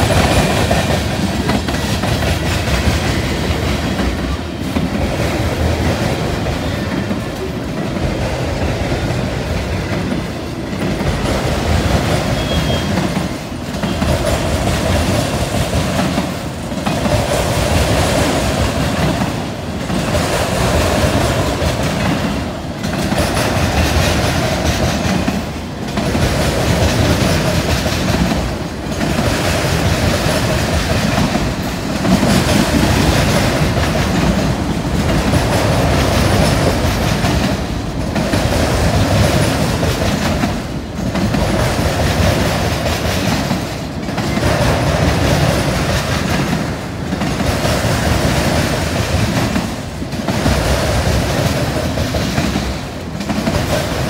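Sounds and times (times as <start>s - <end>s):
train wheels clattering over crossing: 0.0s - 54.0s.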